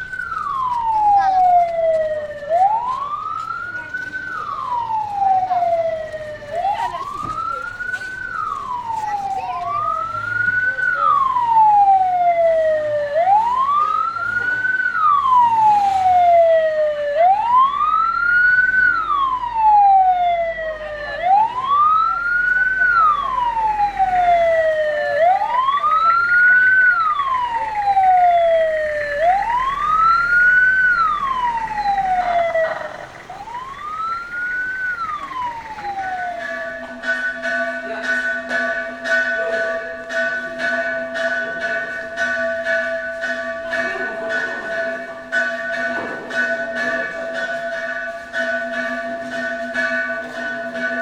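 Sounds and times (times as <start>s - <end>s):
siren wailing: 0.0s - 45.0s.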